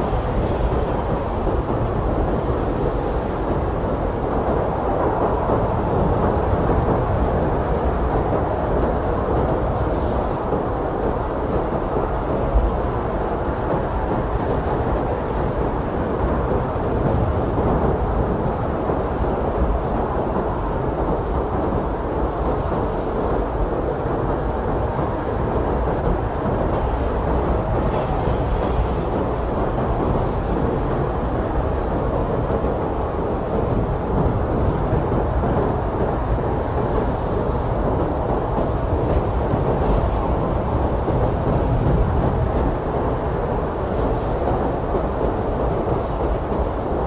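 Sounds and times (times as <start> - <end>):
strong blizzard wind: 0.0 - 47.0.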